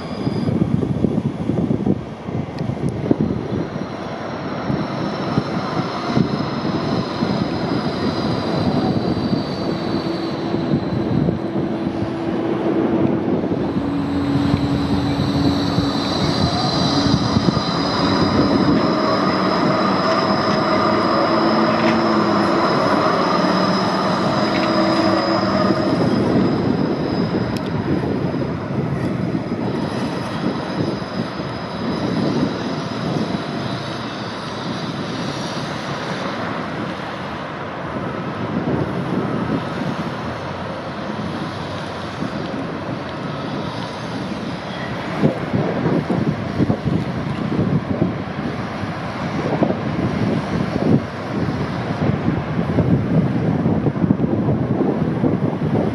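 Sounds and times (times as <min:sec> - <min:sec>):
tram motors whining: 0:00.0 - 0:55.9.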